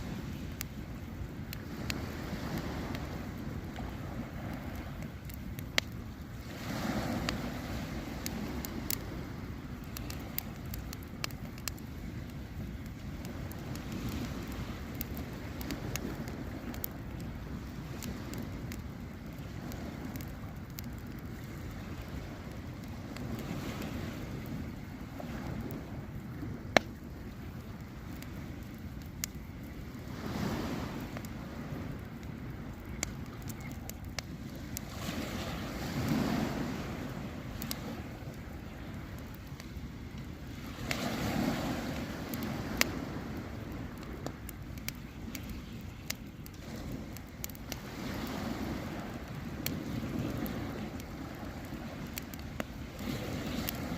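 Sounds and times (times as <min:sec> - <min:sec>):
campfire crackling and popping: 0:00.0 - 0:53.9
low wind rumble: 0:00.0 - 0:53.9.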